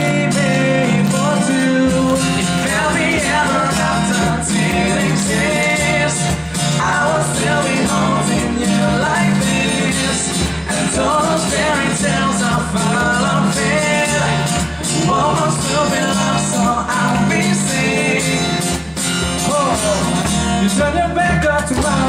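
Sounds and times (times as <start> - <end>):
bass line: 0.0 - 22.0
guitar accompaniment: 0.0 - 22.0
man singing pop song: 0.0 - 22.0.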